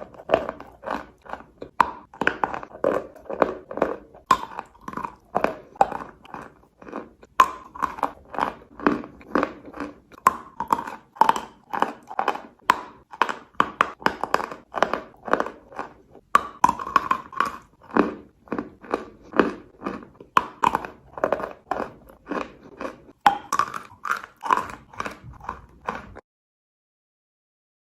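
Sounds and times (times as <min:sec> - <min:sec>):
crunching and chewing chalk: 0:00.0 - 0:26.2.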